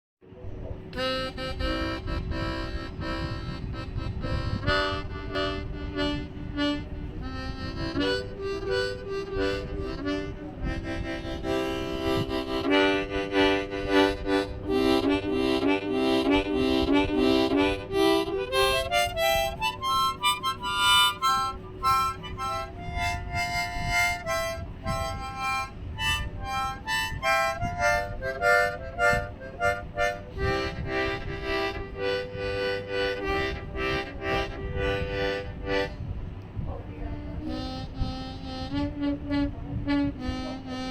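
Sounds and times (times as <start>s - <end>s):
harmonica tune: 0.9s - 36.2s, 37.2s - 40.9s.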